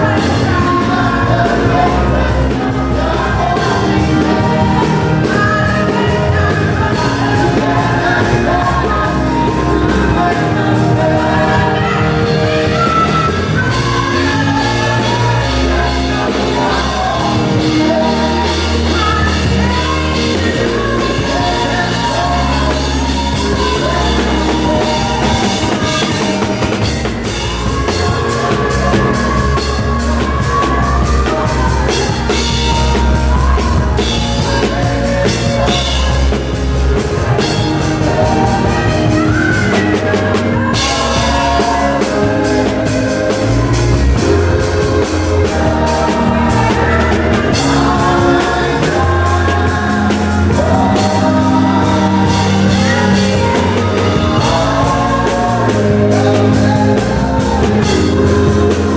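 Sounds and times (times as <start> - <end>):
person singing: 0.0 - 58.9
worship song by a band: 0.0 - 58.9.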